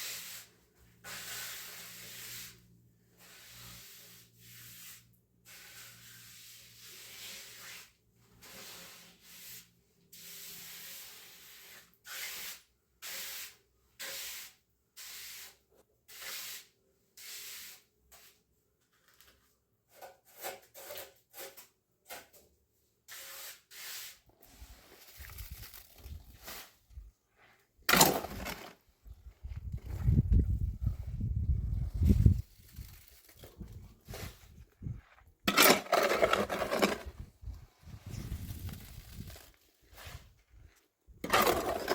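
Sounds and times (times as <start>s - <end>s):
rubbing or scraping strokes: 0.0s - 18.4s, 23.1s - 28.8s, 29.8s - 41.9s.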